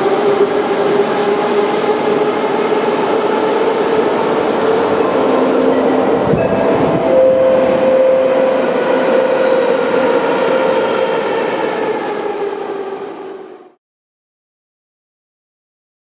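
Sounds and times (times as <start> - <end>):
train wheels rumbling: 0.0 - 13.5.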